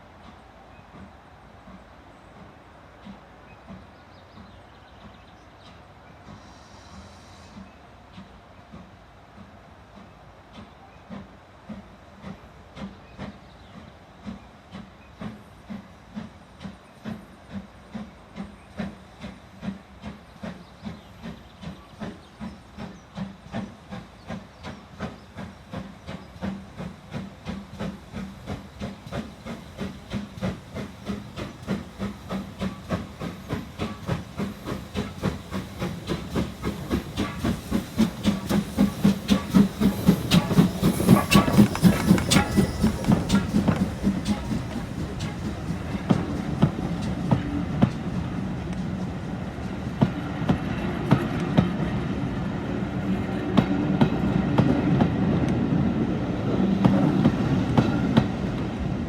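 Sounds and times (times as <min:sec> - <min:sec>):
hiss of steam: 0:00.0 - 0:59.0
steam locomotive exhaust beats: 0:00.0 - 0:59.0.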